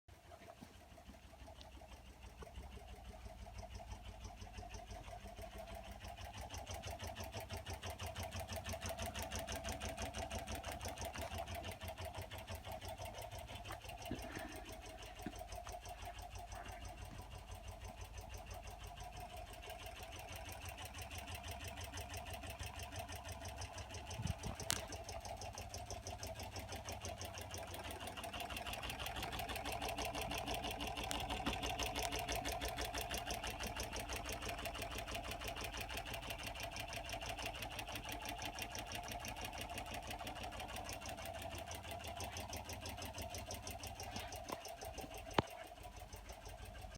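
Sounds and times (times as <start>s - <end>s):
wobbling fan clatter: 5.8s - 46.9s.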